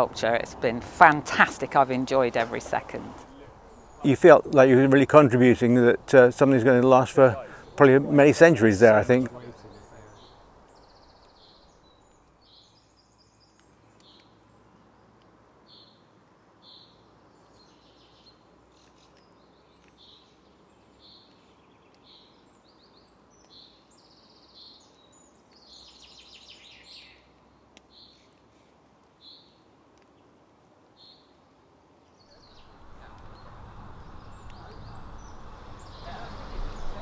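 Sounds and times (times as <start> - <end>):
birds chirping and twittering: 0.0 - 37.0
low steady background hiss: 0.0 - 37.0.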